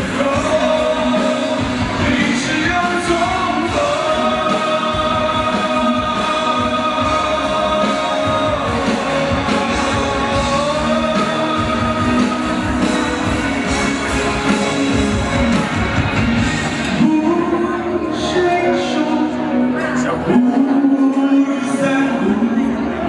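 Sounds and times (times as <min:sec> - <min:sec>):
backing music with steady beat: 0:00.0 - 0:23.0.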